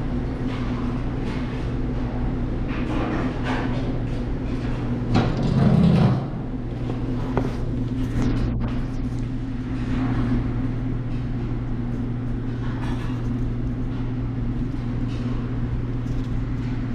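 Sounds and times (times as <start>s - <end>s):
low mechanical hum: 0.0s - 16.9s.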